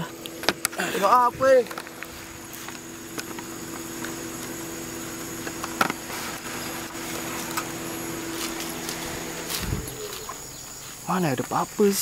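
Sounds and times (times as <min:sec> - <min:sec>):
car engine idling: 0:00.0 - 0:12.0
insects droning: 0:00.0 - 0:12.0.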